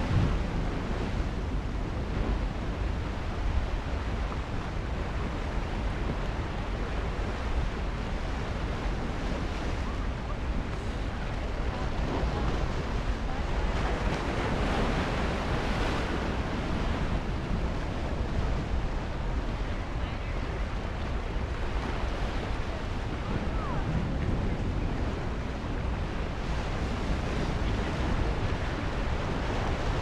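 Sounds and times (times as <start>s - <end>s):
surf washing over rocks: 0.0s - 30.0s
wind buffeting microphone: 0.0s - 30.0s.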